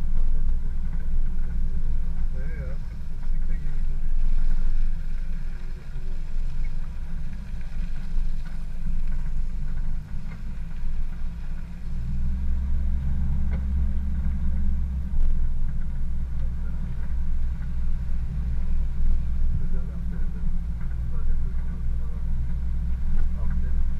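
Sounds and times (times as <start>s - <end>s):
vehicle engine and road rumble: 0.0s - 23.9s.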